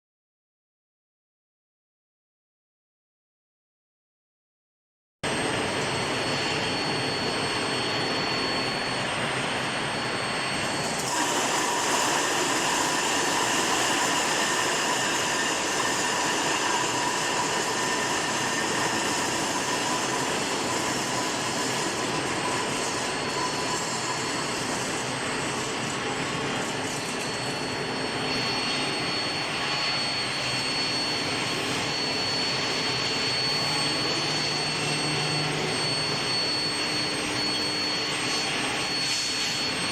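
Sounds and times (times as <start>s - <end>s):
thin high whine: 5.3s - 39.9s.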